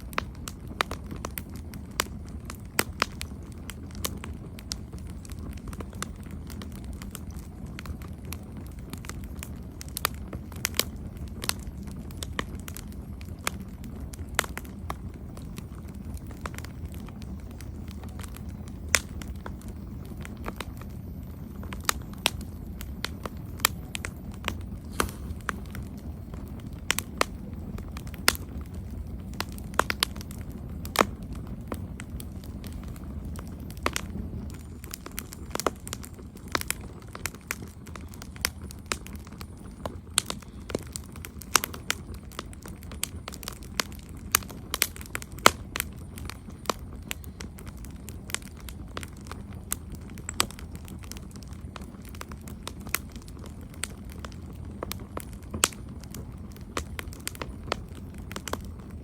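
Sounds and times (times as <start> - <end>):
campfire crackling and popping: 0.0 - 59.0
flames rushing: 0.0 - 59.0.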